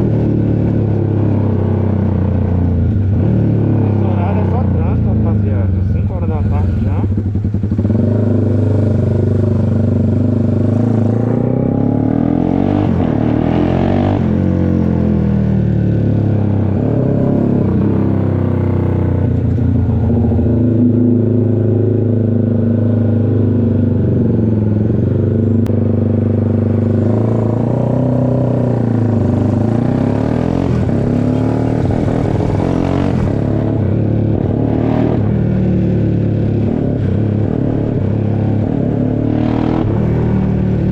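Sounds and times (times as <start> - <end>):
motorcycle engine running loud: 0.0 - 40.9.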